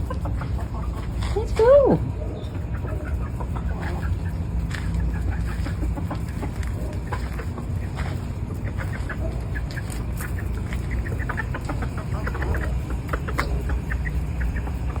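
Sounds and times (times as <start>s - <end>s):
chickens clucking: 0.0s - 15.0s
steady low rumble: 0.0s - 15.0s.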